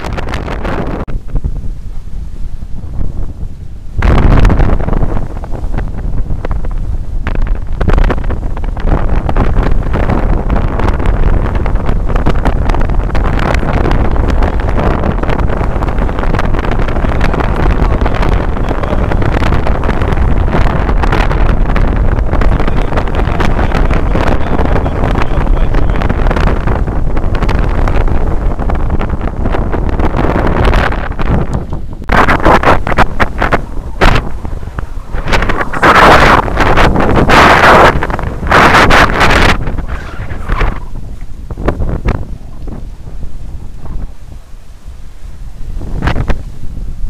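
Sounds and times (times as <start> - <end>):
water splashing along hull: 0.0 - 47.0
wind buffeting microphone: 0.0 - 47.0.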